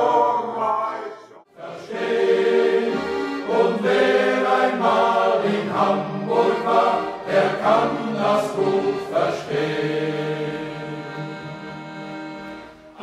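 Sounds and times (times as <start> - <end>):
choir singing a sea song: 0.0 - 12.0.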